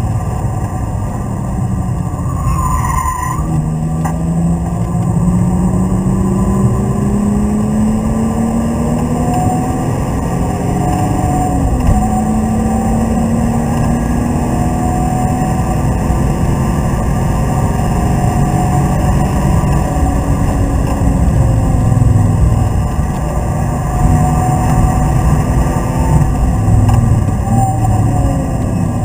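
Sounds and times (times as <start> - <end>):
road and wind noise: 0.0 - 29.0.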